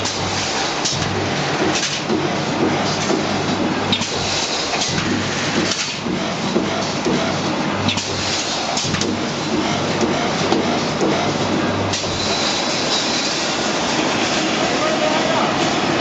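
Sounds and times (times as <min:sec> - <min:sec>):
welding machine clatter and hiss: 0:00.0 - 0:16.0.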